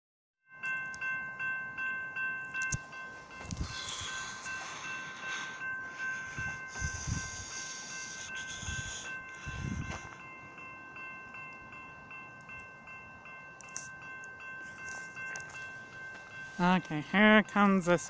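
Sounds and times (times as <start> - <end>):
crossing warning bell ringing: 0.5 - 18.0.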